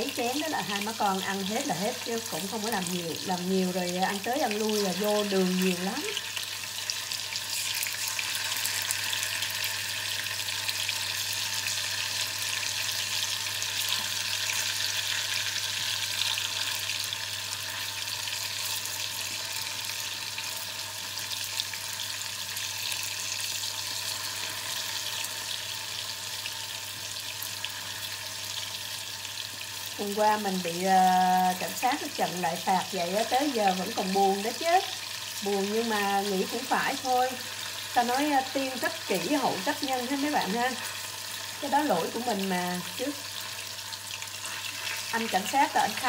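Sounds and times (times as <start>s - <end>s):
tofu sizzling in hot oil: 0.0s - 46.0s.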